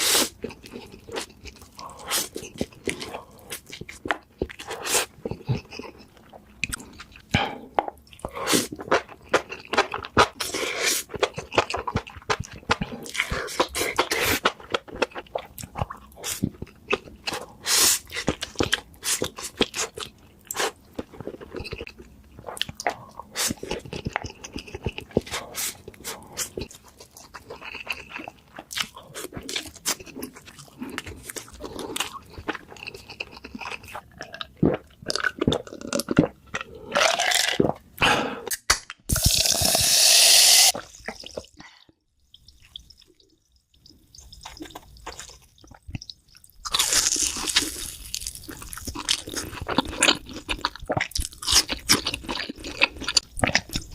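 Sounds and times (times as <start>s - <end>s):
person chewing crunchy food: 0.0s - 53.9s.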